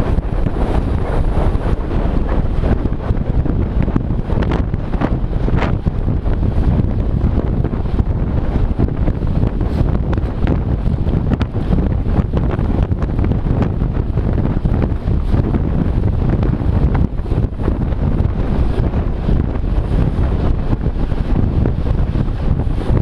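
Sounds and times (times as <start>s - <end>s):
low rumble: 0.0s - 23.0s
wind buffeting microphone: 0.0s - 23.0s.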